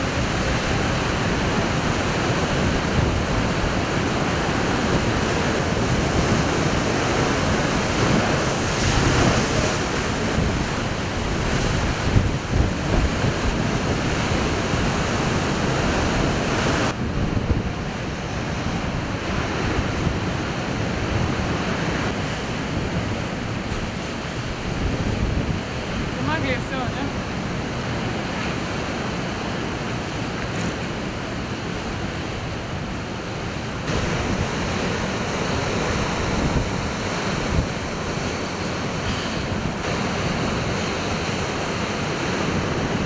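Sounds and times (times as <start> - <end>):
storm surf breaking on shore: 0.0 - 43.0
wind buffeting microphone: 0.0 - 43.0.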